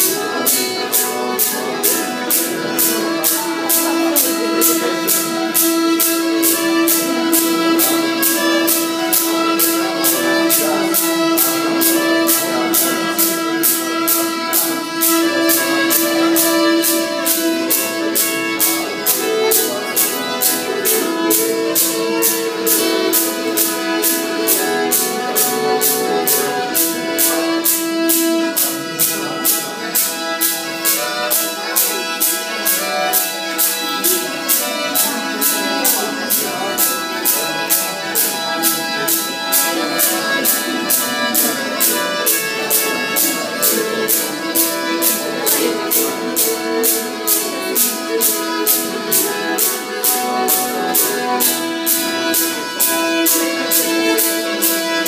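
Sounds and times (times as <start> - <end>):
bowed fiddles playing folk tune: 0.0 - 55.0
wooden clapper beat: 0.0 - 55.0.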